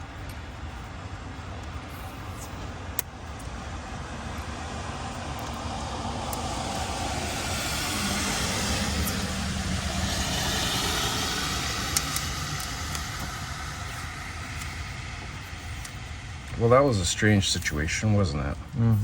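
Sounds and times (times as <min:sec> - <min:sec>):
vehicle engine running: 0:00.0 - 0:19.0
rushing noise: 0:01.2 - 0:19.0.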